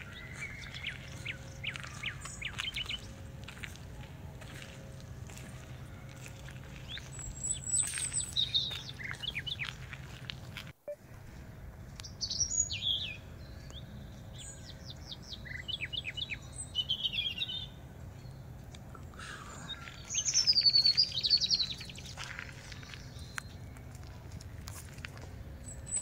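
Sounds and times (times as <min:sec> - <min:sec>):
birds chirping and trilling: 0:00.0 - 0:10.3, 0:12.0 - 0:24.1.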